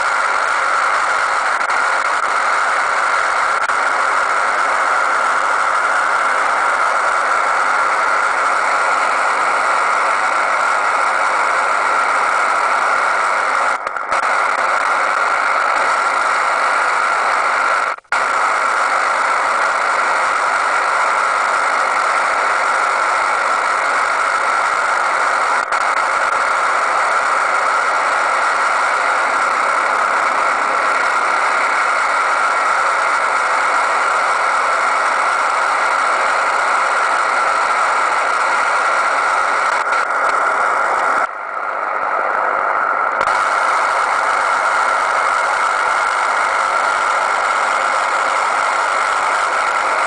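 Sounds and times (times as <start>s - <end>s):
radio receiver rushing noise: 0.0s - 50.0s.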